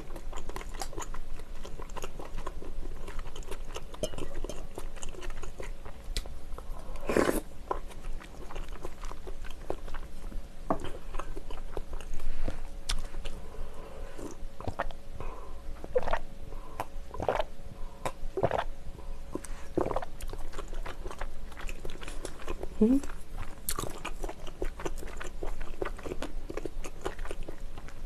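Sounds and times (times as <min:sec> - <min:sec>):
wet chewing: 0:00.0 - 0:13.4, 0:14.2 - 0:15.0, 0:15.8 - 0:28.0.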